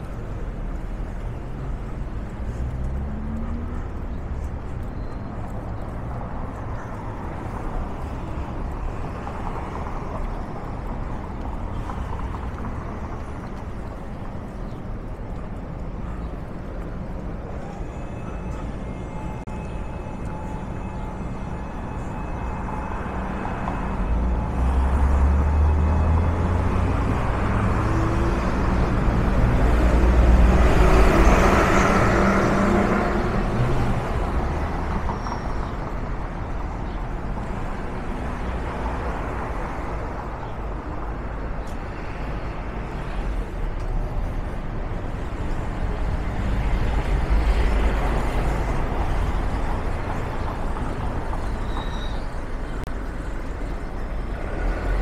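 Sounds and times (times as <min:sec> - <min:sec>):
low rumble of traffic engines: 0:00.0 - 0:55.0.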